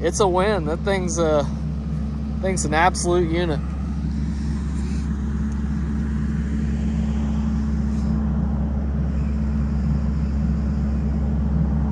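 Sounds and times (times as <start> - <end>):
diesel engine droning: 0.0 - 11.9.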